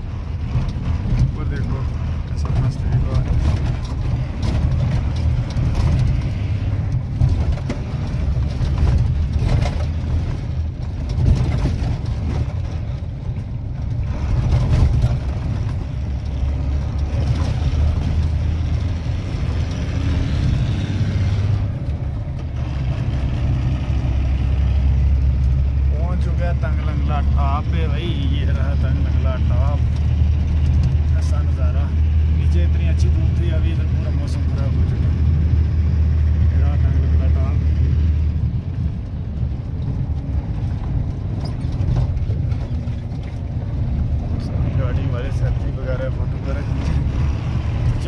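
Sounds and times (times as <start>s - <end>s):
knocks and rattles: 0.0s - 25.9s, 26.5s - 48.0s
truck engine rumble: 0.0s - 48.0s.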